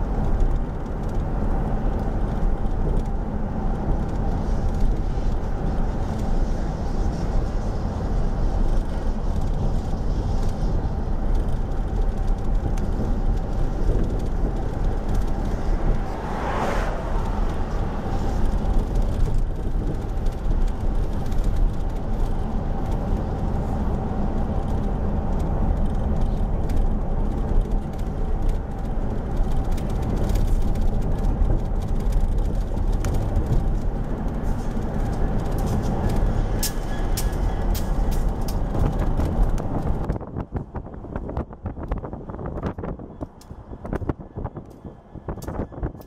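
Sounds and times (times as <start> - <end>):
diesel locomotive engines rumbling: 0.0 - 46.0.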